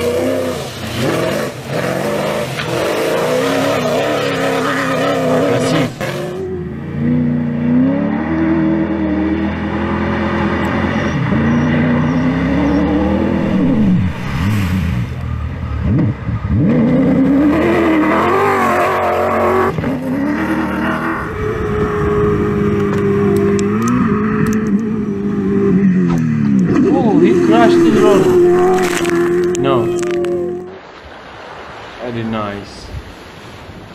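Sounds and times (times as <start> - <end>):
truck engines revving hard: 0.0 - 30.7
truck passing by: 0.0 - 30.7.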